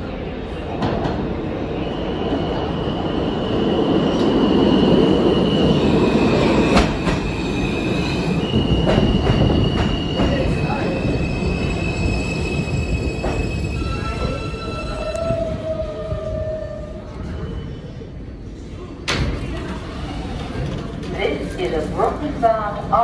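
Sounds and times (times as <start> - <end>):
high steady train whine: 0.0 - 23.0
subway train cars rumbling: 0.0 - 23.0.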